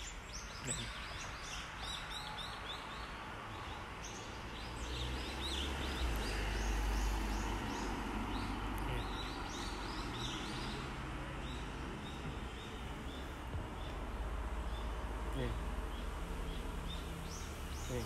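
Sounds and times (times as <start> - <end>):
outdoor ambience: 0.0 - 18.0
small birds chirping: 0.0 - 18.0.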